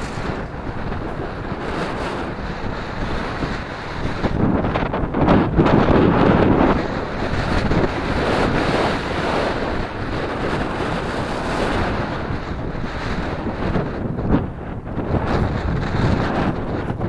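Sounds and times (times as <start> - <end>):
wind rushing across microphone: 0.0 - 17.0.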